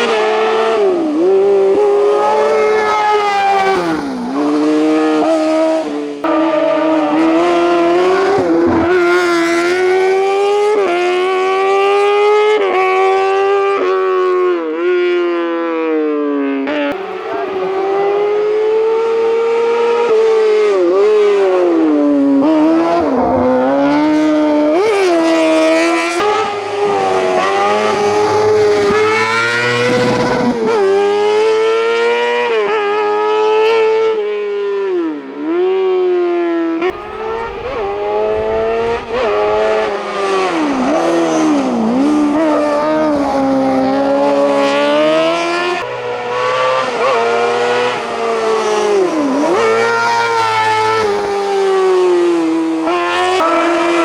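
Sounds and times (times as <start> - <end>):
race car engine revving: 0.0 - 16.0, 16.7 - 54.0.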